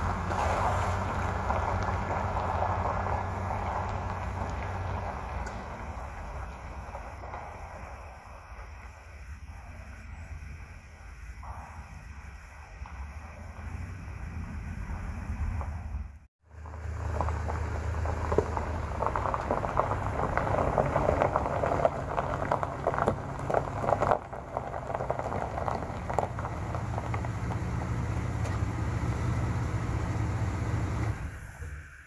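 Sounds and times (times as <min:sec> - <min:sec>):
vehicle engine hum: 0:00.0 - 0:09.0, 0:12.8 - 0:32.0
stones crackling under tyres: 0:00.0 - 0:10.4, 0:11.4 - 0:31.4.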